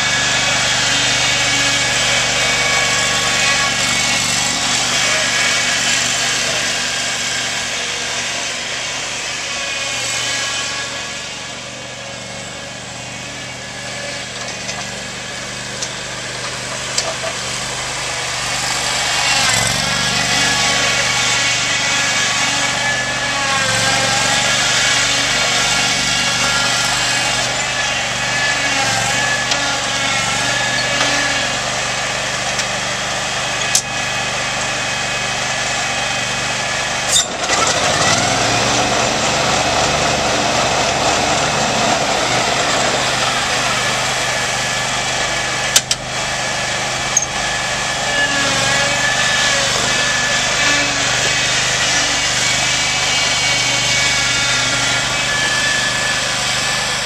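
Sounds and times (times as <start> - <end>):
mower engine running: 0.0 - 57.0.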